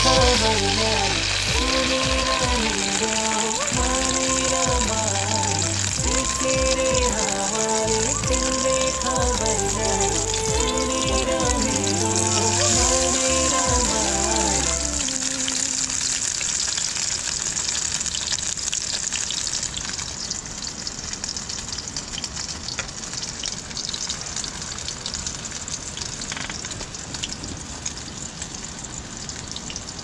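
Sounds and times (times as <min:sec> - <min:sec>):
sausages sizzling in a pan: 0:00.0 - 0:26.7.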